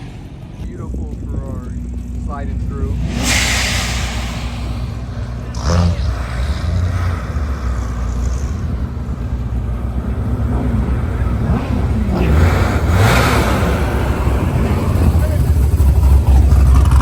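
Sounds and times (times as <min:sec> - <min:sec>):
car engines rumbling past: 0:00.0 - 0:17.0.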